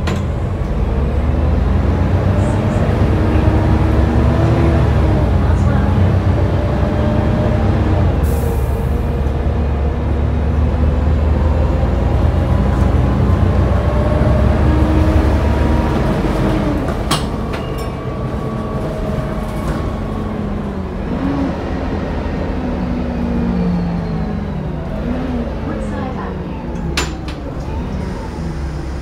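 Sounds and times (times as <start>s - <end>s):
bus diesel engine rumble: 0.0s - 29.0s.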